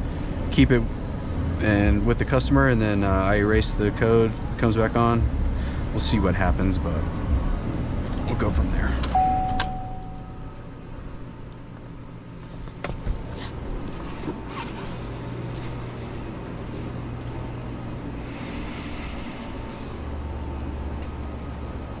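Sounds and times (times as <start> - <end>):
deep hum: 0.0 - 22.0.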